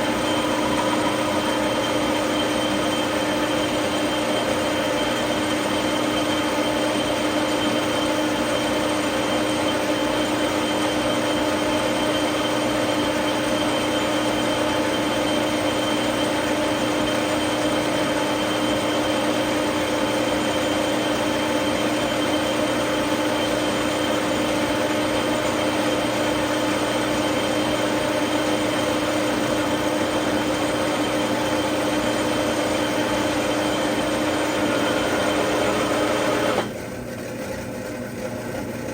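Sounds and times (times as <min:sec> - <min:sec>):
metal lathe humming and whining: 0:00.0 - 0:36.8.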